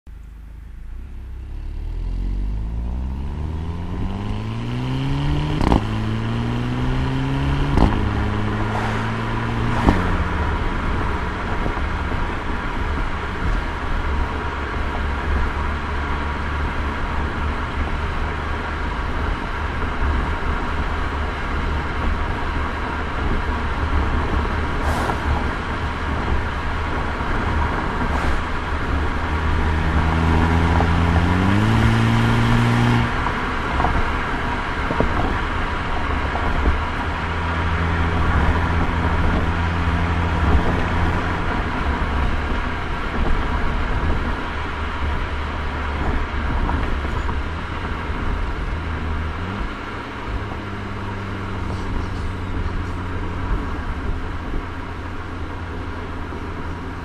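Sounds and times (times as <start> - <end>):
road and wind noise: 0.0 - 57.0
car exhaust engine note: 0.1 - 57.0.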